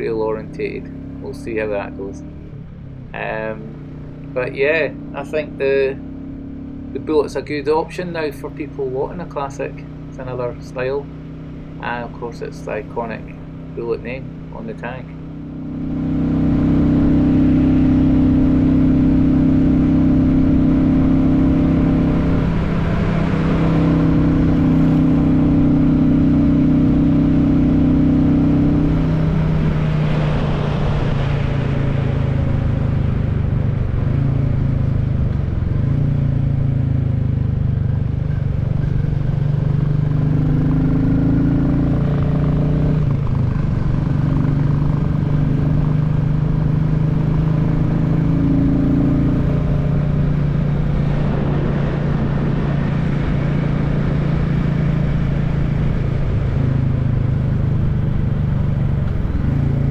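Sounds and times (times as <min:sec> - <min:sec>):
motorcycle engine on the road: 0:00.0 - 0:59.9.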